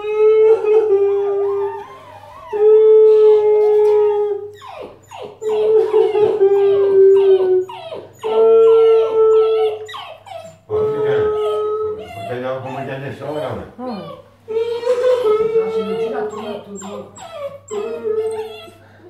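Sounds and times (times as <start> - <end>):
puppy whimpering and howling: 0.0 - 18.9.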